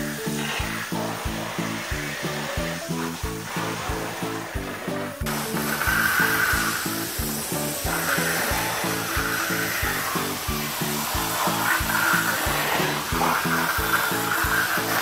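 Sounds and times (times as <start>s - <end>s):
background music with steady beat: 0.0s - 15.0s
garden hose spraying water: 0.0s - 15.0s.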